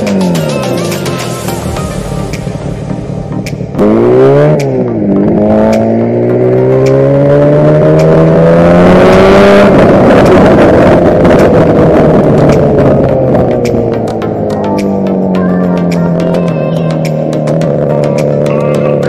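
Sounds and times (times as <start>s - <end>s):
two-stroke engine revving: 3.5s - 19.0s.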